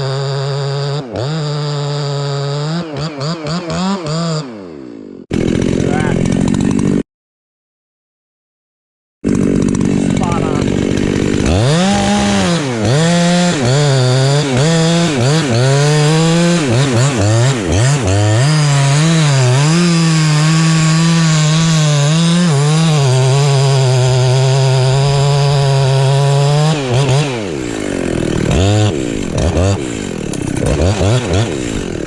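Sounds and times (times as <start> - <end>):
chainsaw cutting wood: 0.0 - 7.0, 9.2 - 32.0.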